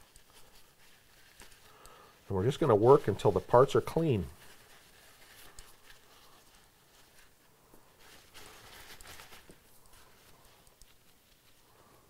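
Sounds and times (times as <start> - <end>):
paper towel rustling: 0.0 - 12.0.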